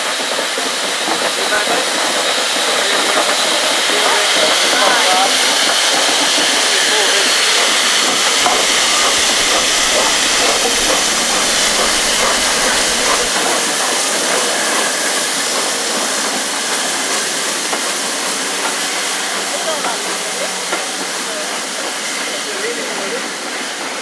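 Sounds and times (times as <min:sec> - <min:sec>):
steam locomotive steam hissing: 0:00.0 - 0:24.0.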